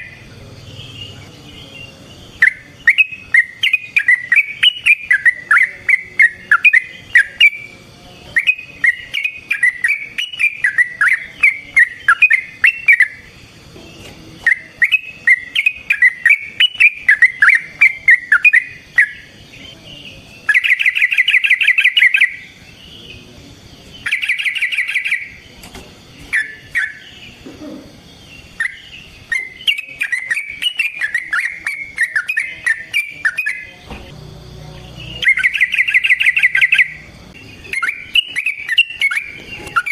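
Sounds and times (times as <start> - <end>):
rapid bird trills: 0.0 - 13.5, 14.4 - 25.5, 26.2 - 27.4, 28.0 - 33.8, 34.8 - 39.9
bulbul chattering song: 0.0 - 39.9.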